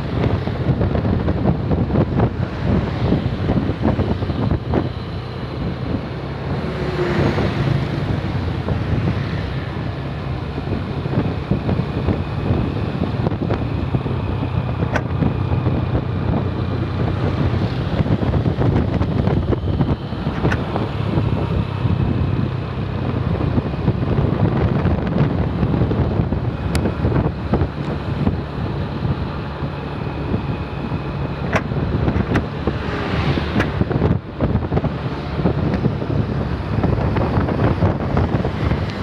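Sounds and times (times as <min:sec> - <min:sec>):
bus engine running: 0:00.0 - 0:39.0
wind buffeting microphone: 0:00.0 - 0:39.0.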